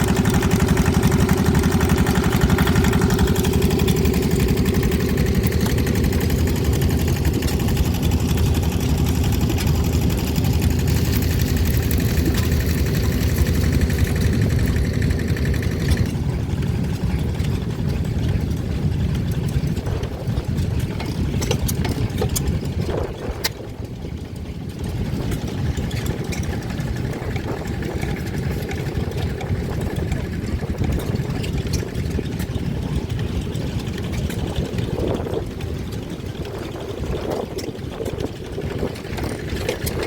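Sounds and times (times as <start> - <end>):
sharp engine clicks: 0.0 - 40.0
stationary engines running: 0.0 - 40.0.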